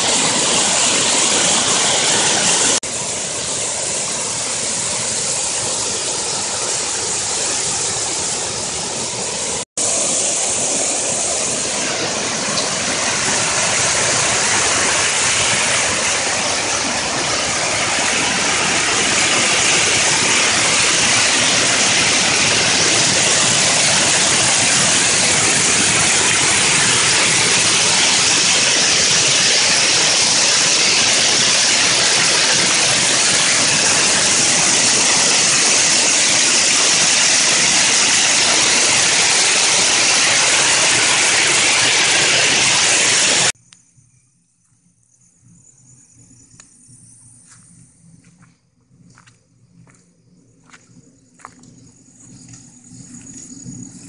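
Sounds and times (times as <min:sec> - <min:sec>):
water rushing over rocks: 0:00.0 - 0:43.6.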